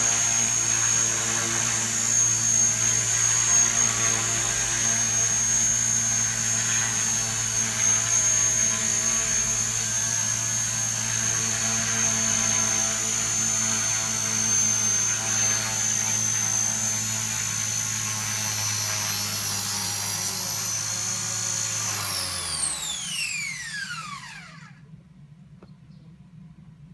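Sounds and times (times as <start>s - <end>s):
rotor blades humming: 0.0s - 24.9s
model helicopter motor whine: 0.0s - 25.0s.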